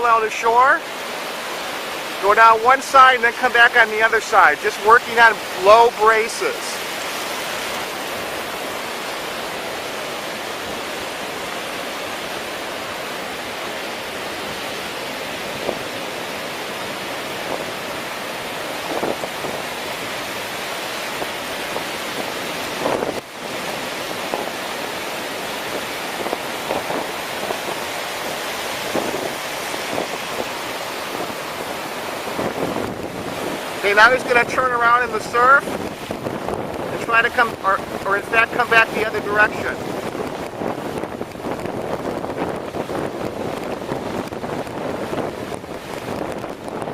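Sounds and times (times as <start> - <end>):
breaking surf: 0.0 - 46.9
strong wind buffeting microphone: 4.4 - 46.9.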